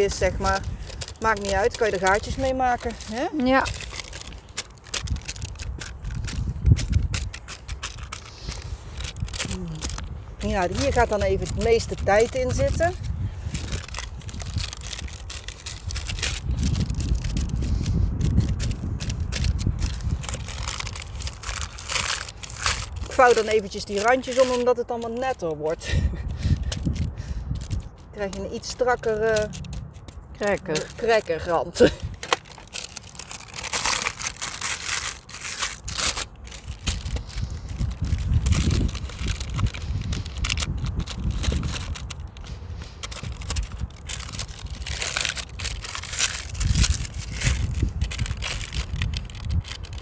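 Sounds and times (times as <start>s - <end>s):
baking paper rustling and crinkling: 0.0s - 50.0s.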